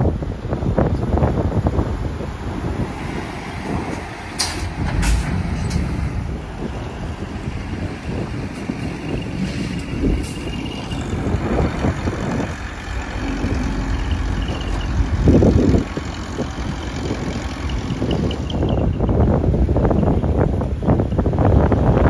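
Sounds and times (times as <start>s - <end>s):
diesel bus passing: 0.0s - 22.0s
box truck driving past: 1.6s - 19.6s.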